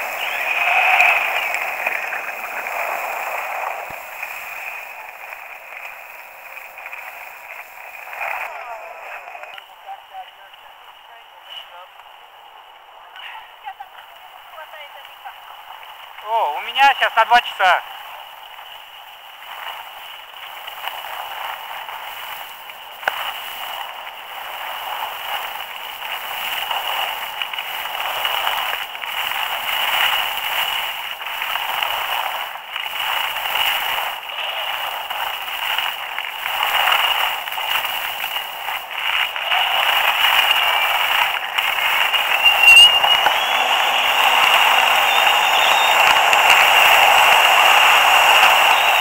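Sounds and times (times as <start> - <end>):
skis scraping over snow: 0.0 - 10.3, 19.3 - 49.0.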